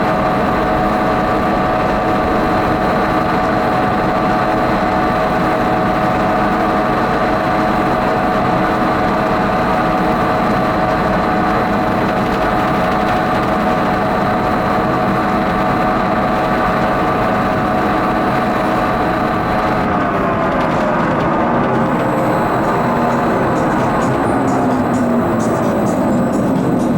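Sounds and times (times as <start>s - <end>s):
fairground ride mechanical hum: 0.0s - 26.9s
steady whine of held tones: 0.0s - 26.9s.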